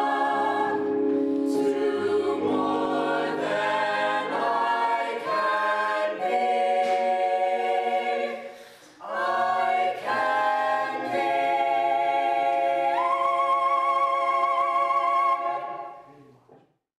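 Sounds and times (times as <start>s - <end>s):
choir singing in harmony: 0.0s - 16.1s.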